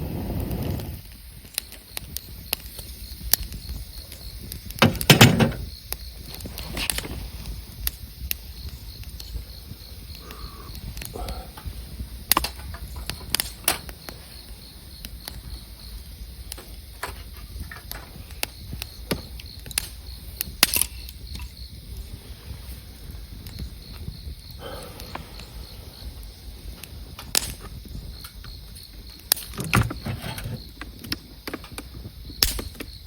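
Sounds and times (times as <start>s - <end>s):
campfire crackling: 0.0s - 33.0s
insect chirping faintly: 0.0s - 33.0s.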